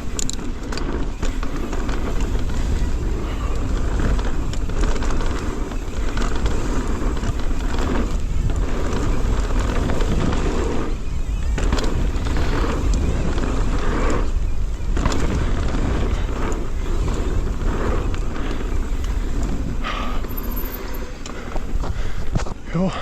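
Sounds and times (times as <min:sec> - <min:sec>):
bike rattling clicks and knocks: 0:00.0 - 0:22.6
wind buffeting microphone: 0:00.0 - 0:22.7.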